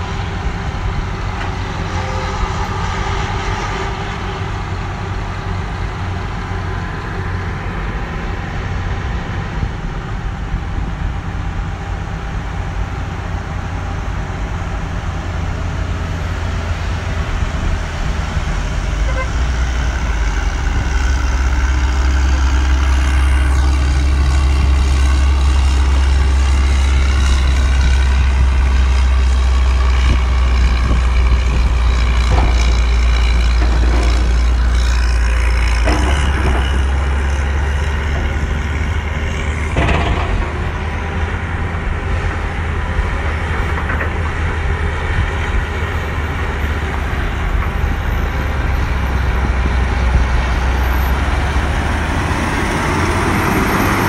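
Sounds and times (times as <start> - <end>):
excavator diesel engine: 0.0 - 54.0
motor grader diesel drone: 0.0 - 54.0.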